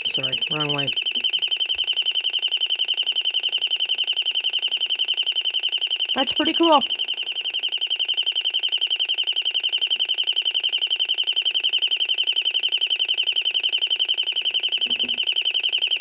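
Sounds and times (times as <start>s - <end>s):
fast pulsing high-pitched alarm: 0.0s - 16.0s.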